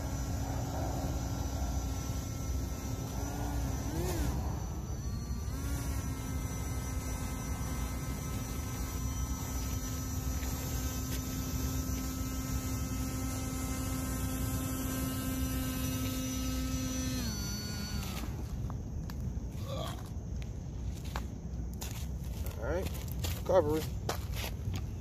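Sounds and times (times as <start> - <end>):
electric motor and propeller hum: 0.0 - 21.2.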